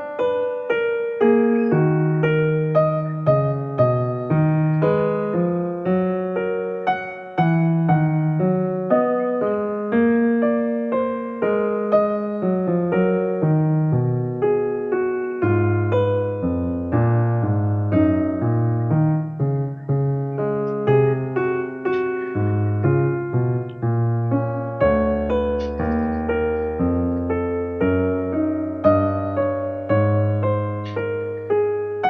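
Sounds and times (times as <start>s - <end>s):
soft keyboard music: 0.0s - 32.0s.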